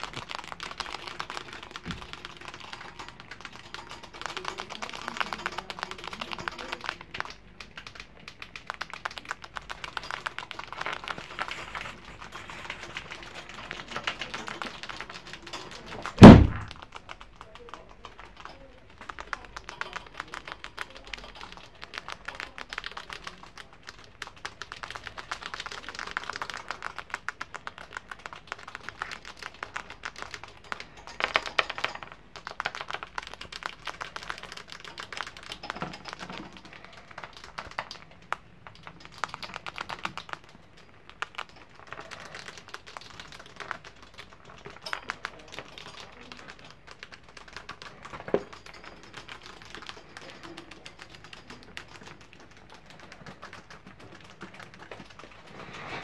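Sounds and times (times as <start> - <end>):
rats gnawing dry pasta: 0.0 - 56.0.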